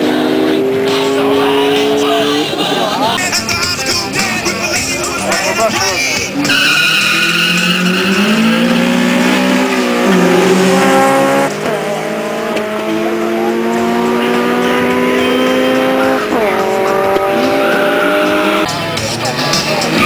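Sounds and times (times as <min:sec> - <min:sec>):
race cars accelerating: 0:00.0 - 0:20.0.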